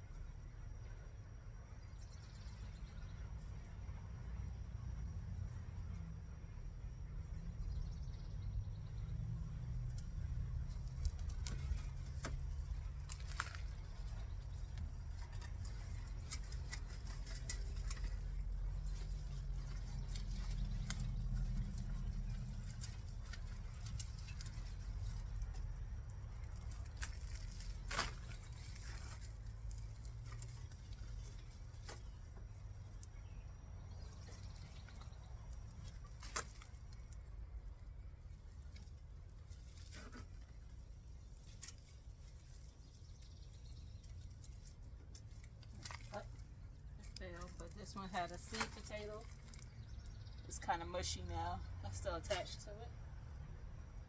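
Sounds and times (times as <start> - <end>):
low steady rumble: 0.0 - 54.0.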